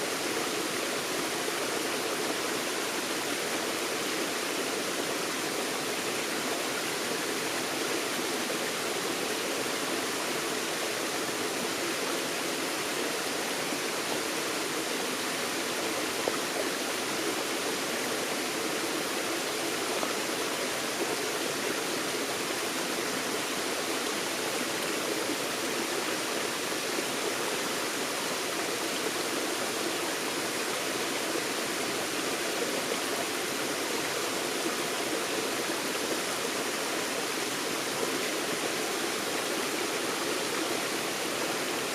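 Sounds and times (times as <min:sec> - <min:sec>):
stream flowing over rocks: 0:00.0 - 0:41.9.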